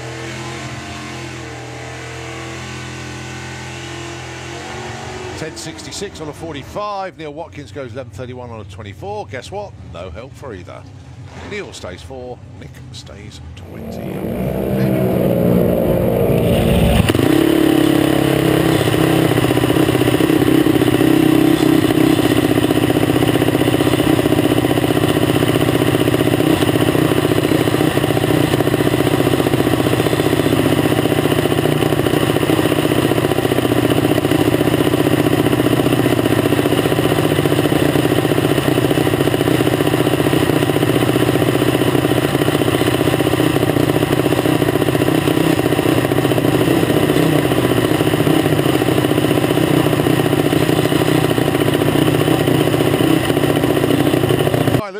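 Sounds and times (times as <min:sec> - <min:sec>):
dragster engine revving: 0:00.0 - 0:08.2, 0:11.0 - 0:54.9.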